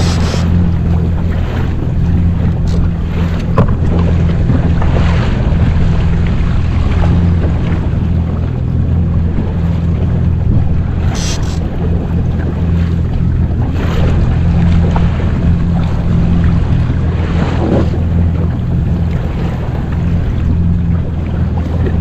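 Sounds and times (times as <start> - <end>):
jet ski engine humming: 0.0 - 22.0
water splashing on hull: 0.0 - 22.0
wind buffeting microphone: 0.0 - 22.0.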